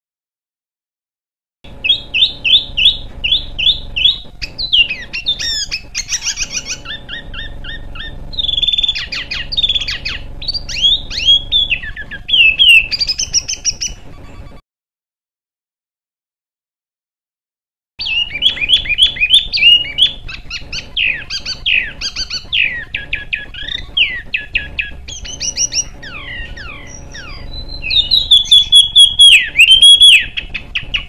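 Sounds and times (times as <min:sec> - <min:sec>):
songbird singing: 0:01.7 - 0:14.1, 0:18.0 - 0:31.0
steady low hum: 0:01.7 - 0:14.6, 0:18.0 - 0:31.0.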